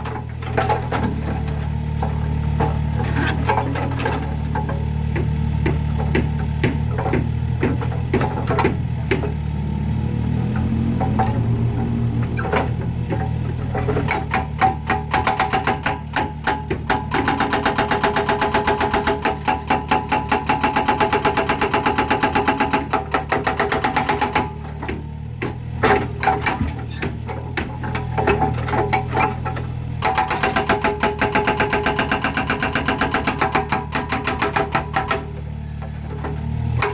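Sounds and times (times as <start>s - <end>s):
excavator engine running: 0.0s - 36.9s
hydraulic breaker hammering concrete: 0.4s - 9.5s, 12.8s - 35.5s.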